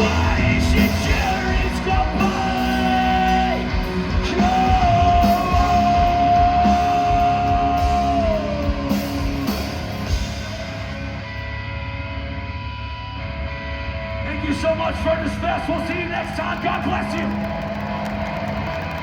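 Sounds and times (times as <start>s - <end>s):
heavy metal band playing live: 0.0s - 19.0s.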